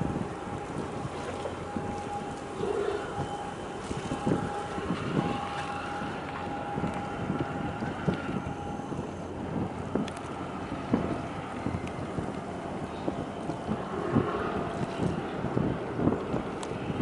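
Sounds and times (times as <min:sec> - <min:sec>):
thin steady whine: 0:00.0 - 0:17.0
waterfront ambience: 0:00.0 - 0:17.0
wind buffeting microphone: 0:00.0 - 0:17.0.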